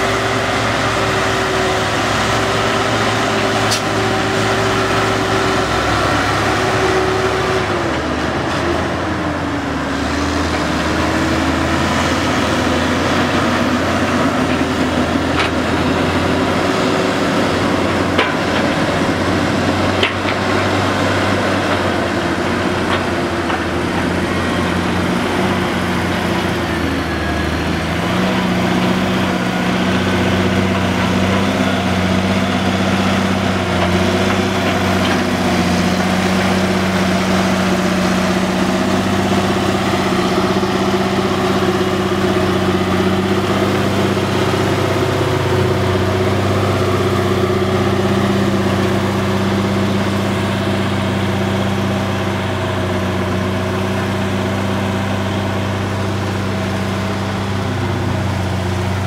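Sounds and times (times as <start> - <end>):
heavy diesel engines under load: 0.0 - 59.0.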